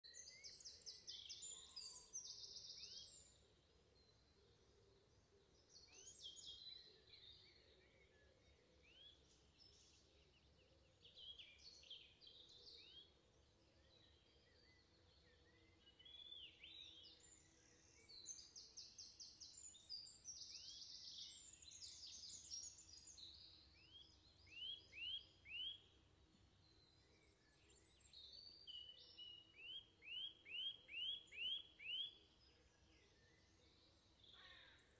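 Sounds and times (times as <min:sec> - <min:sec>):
songbirds trilling and chirping: 0:00.0 - 0:34.9.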